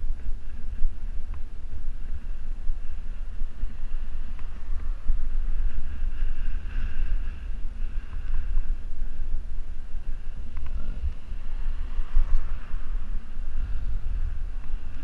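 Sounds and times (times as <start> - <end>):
faint road noise: 0.0 - 15.0
wind buffeting microphone: 0.0 - 15.0.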